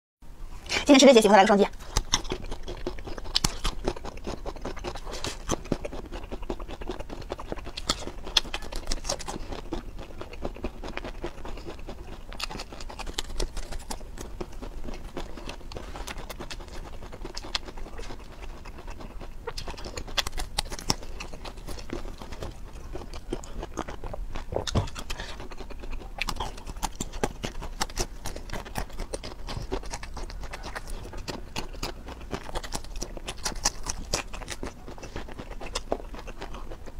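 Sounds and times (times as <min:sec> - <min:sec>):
person chewing crunchy food: 0:01.7 - 0:36.9.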